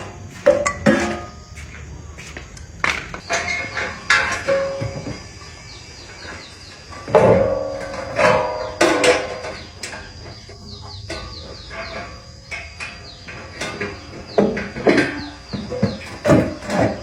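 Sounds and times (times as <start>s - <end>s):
tools clanking on metal: 0.3s - 1.6s, 2.8s - 5.4s, 6.2s - 17.0s
high falling bird chirps: 3.1s - 16.8s.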